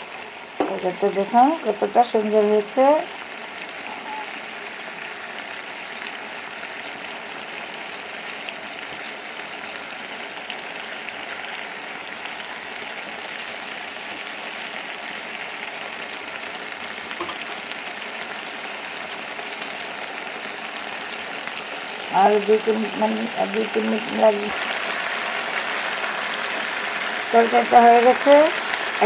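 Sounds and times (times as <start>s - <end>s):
curry bubbling and sizzling in pan: 0.0s - 29.0s.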